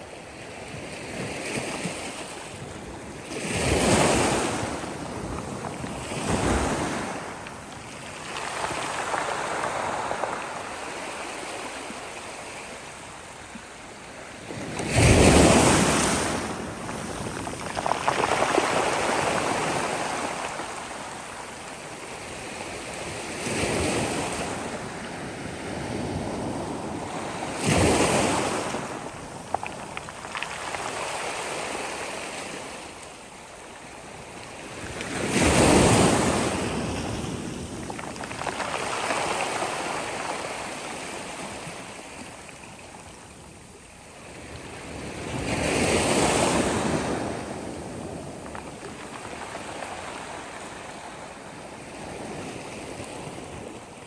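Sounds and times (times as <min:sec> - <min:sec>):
sea waves crashing on shore: 0:01.4 - 0:54.0.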